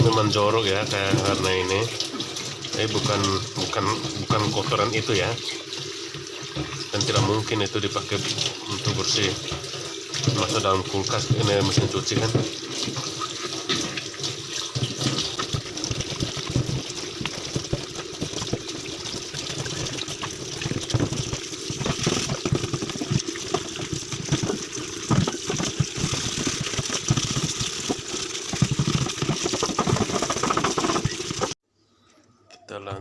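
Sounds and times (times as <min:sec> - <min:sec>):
tap water running and splashing: 0:00.0 - 0:31.6.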